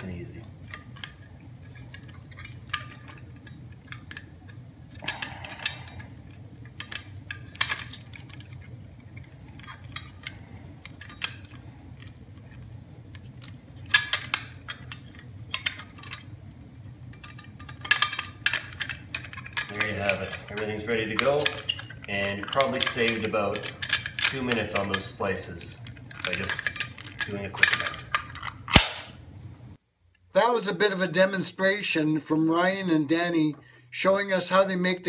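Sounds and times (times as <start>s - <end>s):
wires clicking and scraping: 0.0s - 30.2s
faint low hum: 0.0s - 35.0s.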